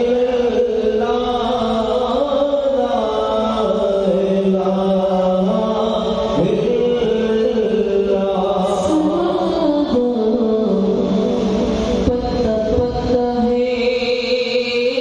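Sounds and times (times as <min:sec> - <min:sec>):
two men singing into microphones: 0:00.0 - 0:15.0.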